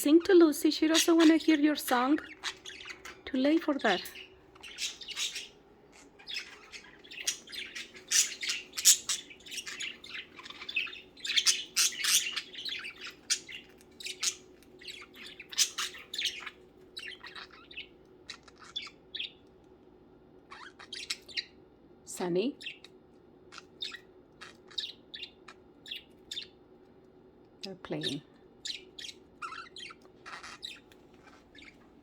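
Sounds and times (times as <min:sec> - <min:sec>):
budgerigars chattering: 0:00.0 - 0:19.4, 0:20.5 - 0:21.5, 0:23.5 - 0:26.5, 0:28.0 - 0:31.8.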